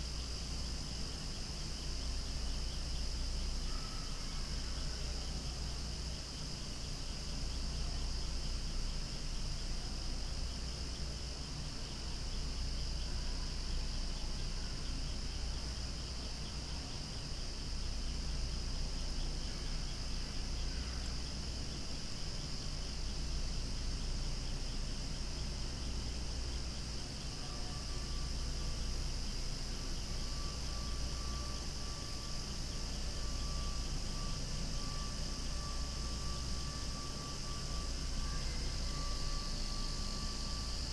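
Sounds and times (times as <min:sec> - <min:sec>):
cicadas singing: 0:00.0 - 0:40.9.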